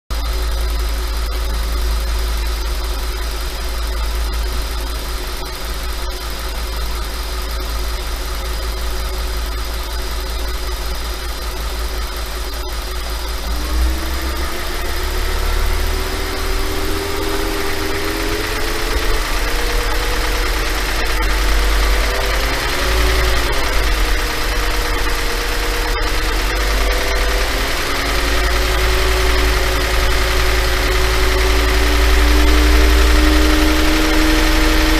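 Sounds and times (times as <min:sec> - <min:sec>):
car engine idling: 0:00.1 - 0:34.9
engine rattling: 0:00.1 - 0:34.9.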